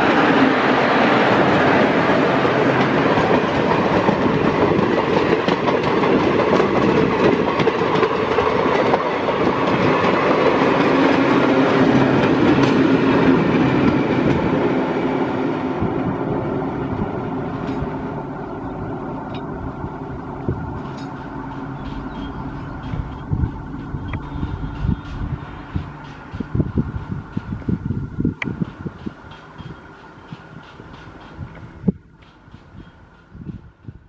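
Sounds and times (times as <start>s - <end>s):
train passing with clattering wheels: 0.0s - 34.0s.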